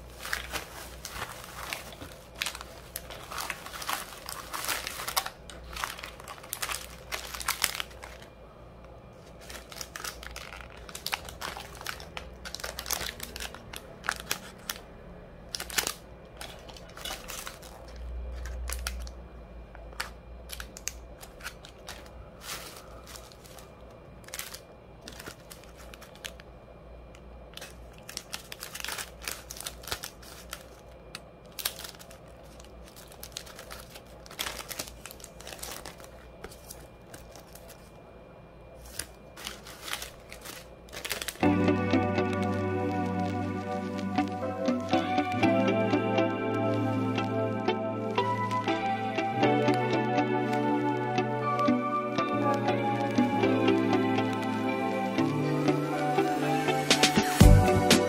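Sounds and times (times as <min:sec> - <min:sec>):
plastic packaging crinkling: 0:00.0 - 0:38.1, 0:38.7 - 0:57.4.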